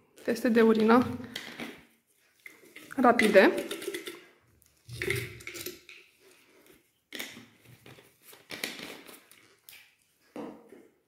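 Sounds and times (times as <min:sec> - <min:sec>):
plastic rustles and clicks: 0:00.0 - 0:10.4.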